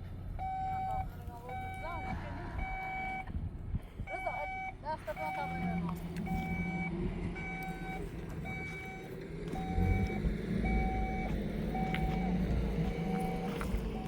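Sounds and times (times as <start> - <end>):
vehicle engine running: 0.0 - 14.0
vehicle reversing alarm beeping: 0.3 - 3.4, 4.0 - 14.0.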